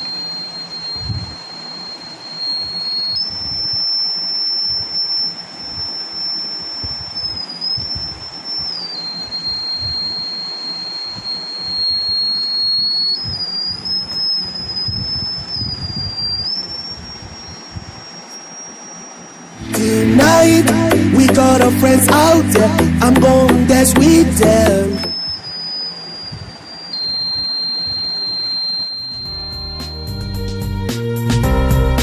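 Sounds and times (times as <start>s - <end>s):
high-pitched alarm buzzer: 0.0s - 30.8s.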